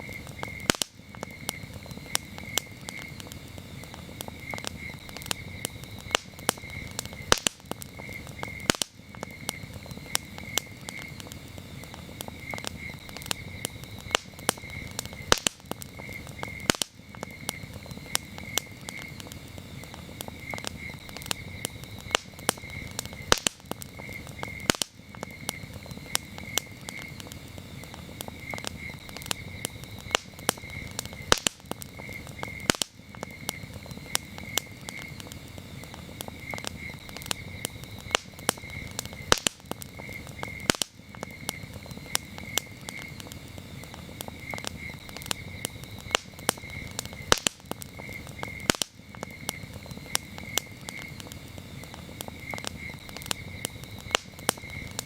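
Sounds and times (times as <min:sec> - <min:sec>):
campfire crackling and popping: 0:00.0 - 0:55.0
crickets chirping: 0:00.0 - 0:55.0.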